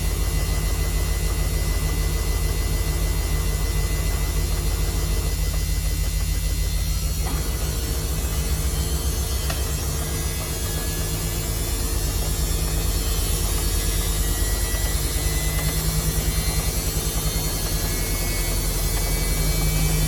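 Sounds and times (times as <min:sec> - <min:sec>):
washing machine running: 0:00.0 - 0:20.0.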